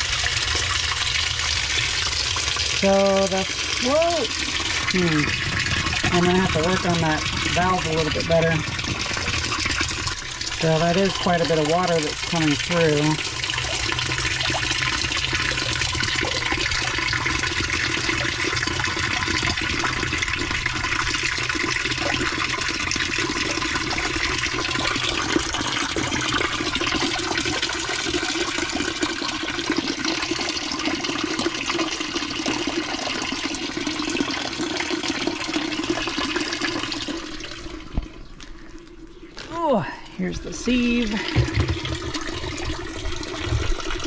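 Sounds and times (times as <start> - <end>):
water running and splashing: 0.0 - 44.0.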